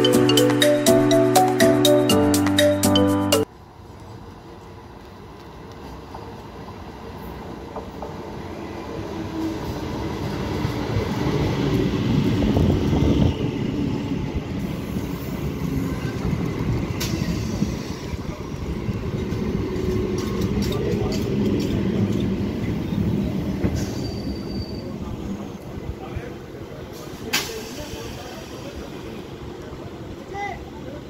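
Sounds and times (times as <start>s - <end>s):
train rumble and wheel clatter: 3.4s - 31.0s.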